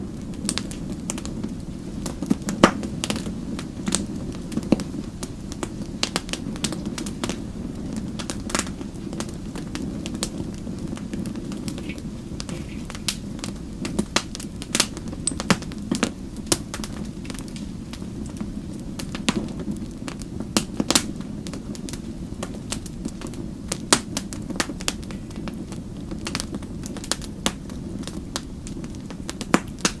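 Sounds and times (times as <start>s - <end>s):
fire pops and snaps: 0.0s - 30.0s
low rumble of flames: 0.0s - 30.0s.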